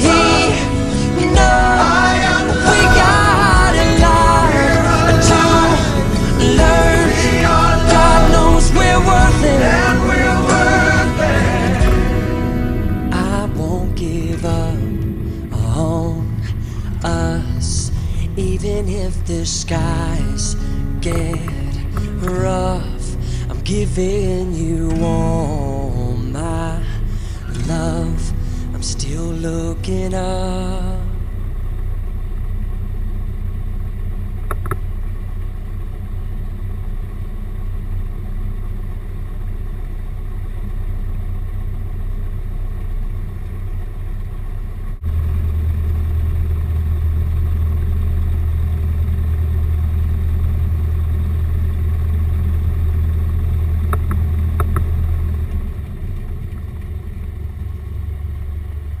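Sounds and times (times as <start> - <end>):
airplane engine and propeller drone: 0.0 - 59.0.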